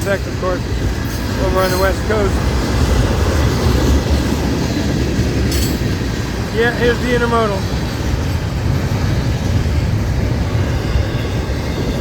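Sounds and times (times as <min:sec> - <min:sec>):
freight train wheels rumbling on rail: 0:00.0 - 0:12.0.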